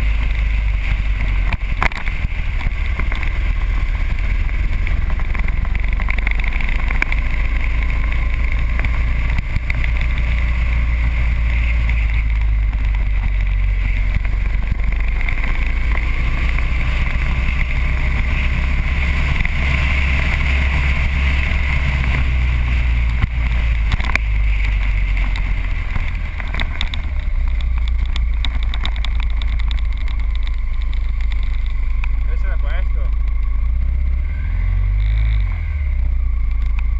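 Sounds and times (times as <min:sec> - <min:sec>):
motorcycle engine drone: 0:00.0 - 0:36.9.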